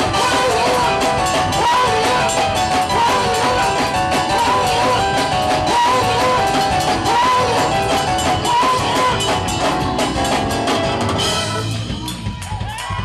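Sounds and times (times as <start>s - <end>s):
bending lead guitar: 0.0s - 12.3s
bass guitar: 0.0s - 13.0s
drums: 0.0s - 13.0s.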